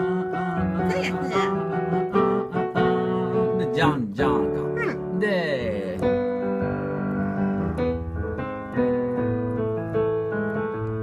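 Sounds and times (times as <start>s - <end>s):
piano playing: 0.0s - 11.0s.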